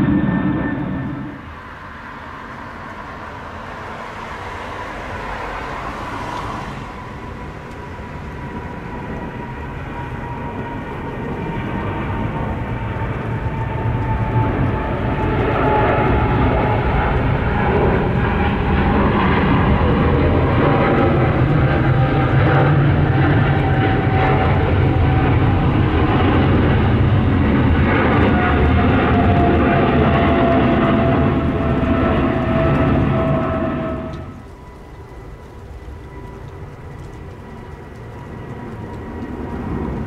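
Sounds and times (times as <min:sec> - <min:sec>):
jet engines at takeoff power: 0:00.0 - 0:40.0.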